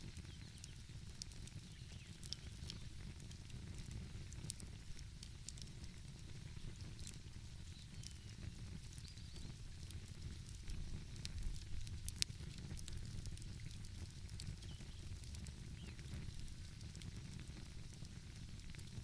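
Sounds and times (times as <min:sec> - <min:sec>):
fire pops: 0:00.0 - 0:19.0
wood fire crackling: 0:00.0 - 0:19.0.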